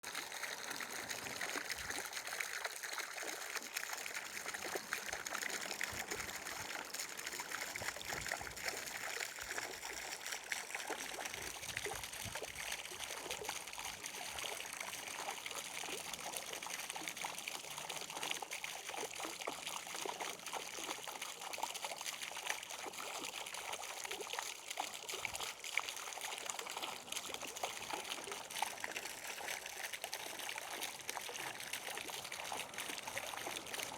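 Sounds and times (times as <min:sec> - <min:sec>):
water trickling: 0:00.0 - 0:33.9.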